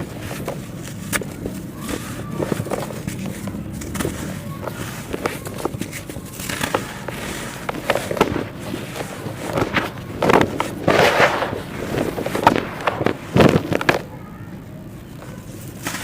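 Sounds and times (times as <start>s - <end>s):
dry clay crumbling and crunching: 0.0s - 14.2s.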